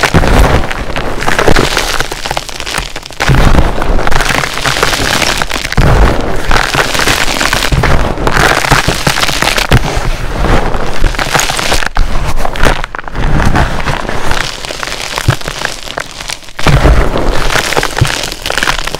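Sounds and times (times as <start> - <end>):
chalk blocks being crushed: 0.0 - 18.9.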